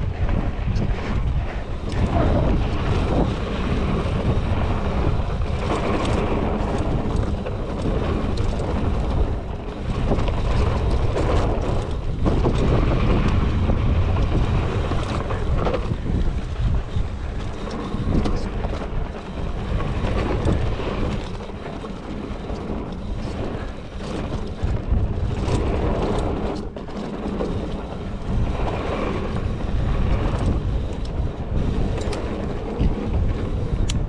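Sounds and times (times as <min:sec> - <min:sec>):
bike clicks and knocks: 0:00.0 - 0:34.0
rumble of bike tyres on dirt: 0:00.0 - 0:34.0
wind rushing over microphone: 0:00.0 - 0:34.0.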